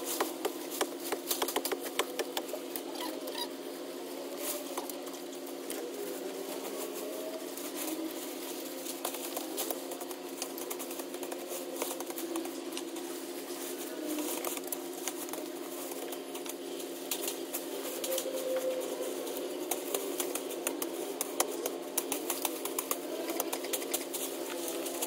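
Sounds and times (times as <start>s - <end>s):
leaves and twigs crackling: 0.0s - 25.0s
steady low hum: 0.0s - 25.0s.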